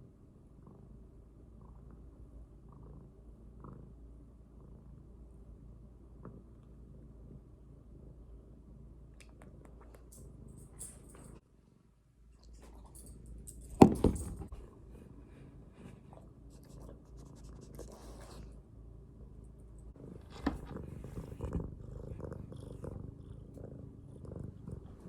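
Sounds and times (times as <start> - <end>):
cat purring: 0.3 - 11.4, 14.7 - 25.0.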